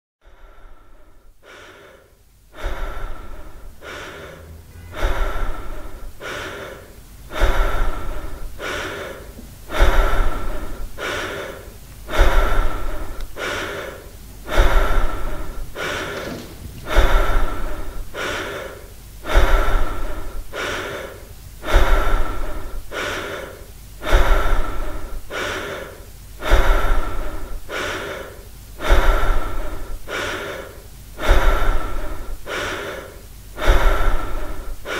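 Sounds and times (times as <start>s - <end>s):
heavy breathing: 0.2s - 34.9s.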